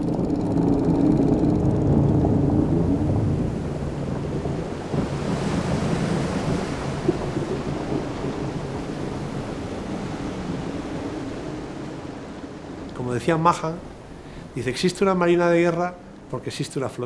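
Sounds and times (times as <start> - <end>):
surf of stormy sea: 0.0 - 17.0
wind: 0.0 - 17.0.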